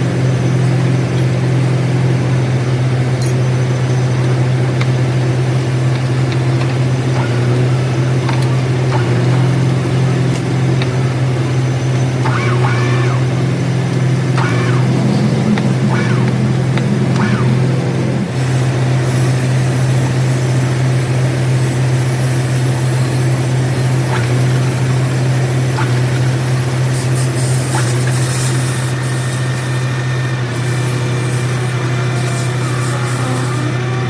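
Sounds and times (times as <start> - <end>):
machine motor humming: 0.0 - 34.0.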